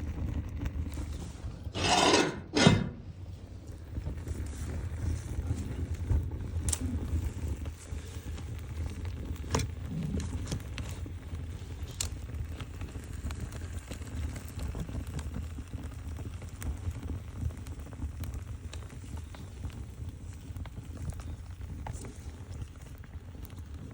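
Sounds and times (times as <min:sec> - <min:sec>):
fire crackling and popping: 0:00.0 - 0:23.9
fire rumbling: 0:00.0 - 0:23.9.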